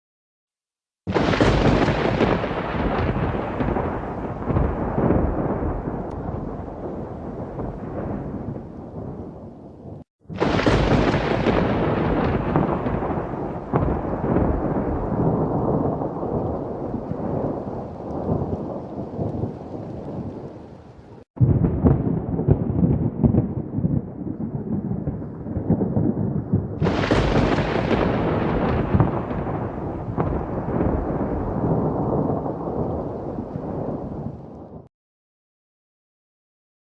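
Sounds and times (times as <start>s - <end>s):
sharp close thunderclap: 1.1s - 20.6s, 21.3s - 34.9s
rain: 1.1s - 34.9s
rolling thunder: 1.1s - 34.9s.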